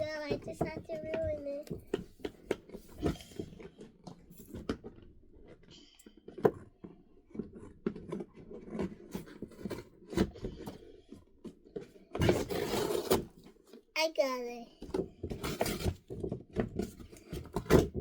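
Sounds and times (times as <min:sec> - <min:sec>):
packaging crinkling and scraping: 0:00.0 - 0:13.9, 0:15.0 - 0:18.0.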